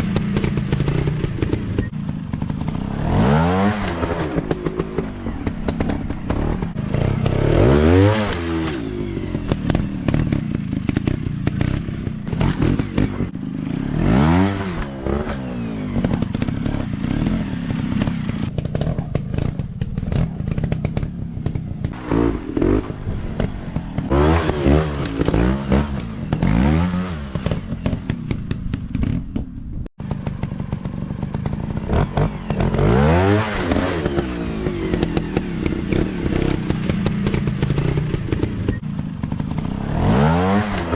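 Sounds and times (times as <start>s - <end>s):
dirt bike engines revving: 0.0s - 29.0s, 30.0s - 40.9s.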